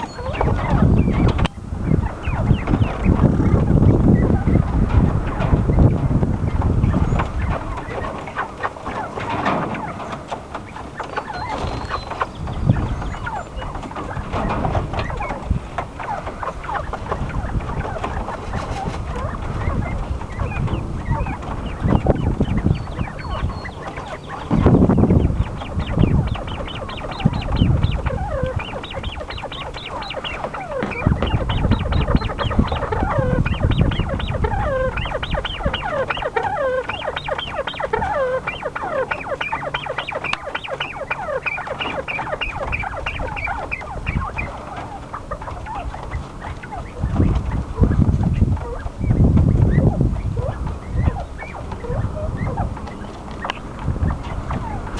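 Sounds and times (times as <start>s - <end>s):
birds scratching in sand: 0.0s - 54.9s
quail chirping: 0.0s - 54.9s.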